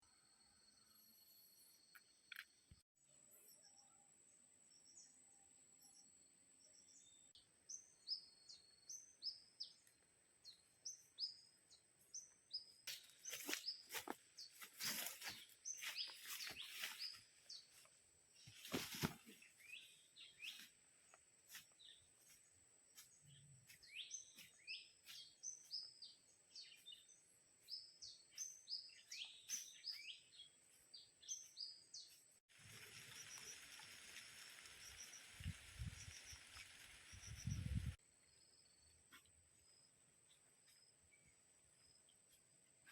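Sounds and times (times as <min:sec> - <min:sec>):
forest birds chirping: 0:00.0 - 0:42.9.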